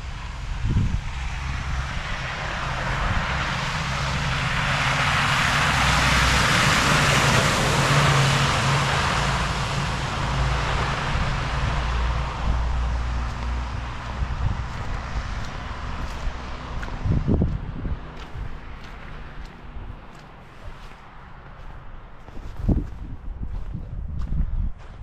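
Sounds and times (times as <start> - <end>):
vehicle passing: 0.0 - 24.9
low traffic hum: 0.0 - 25.0.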